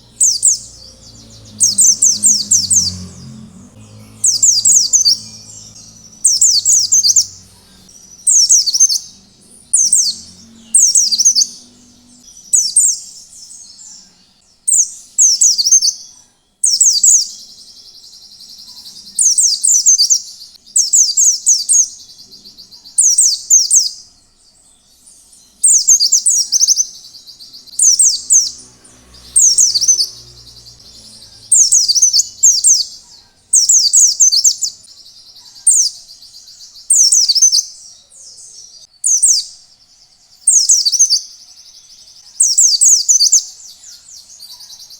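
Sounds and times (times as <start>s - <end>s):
white-eye bird singing: 0.0s - 44.9s.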